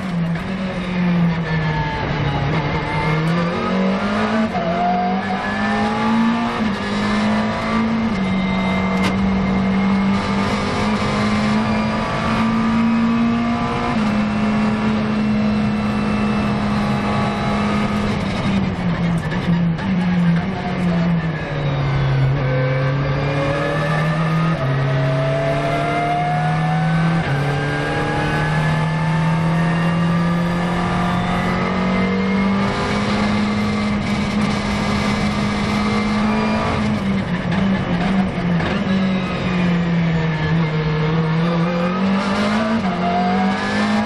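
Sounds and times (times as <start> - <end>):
race car engine accelerating: 0.0 - 44.0.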